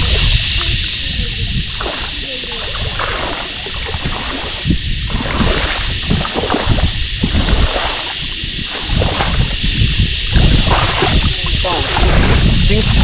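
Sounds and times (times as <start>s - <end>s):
feet wading through water: 0.0s - 13.0s.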